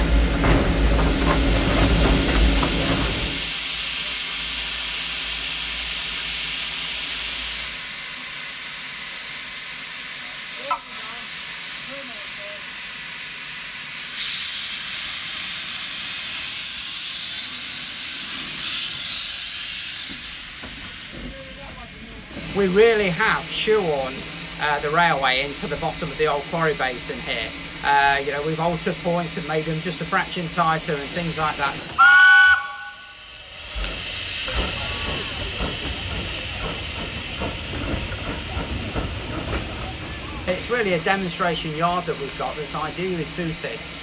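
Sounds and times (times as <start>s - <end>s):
steam hissing from locomotive: 0.0s - 44.0s.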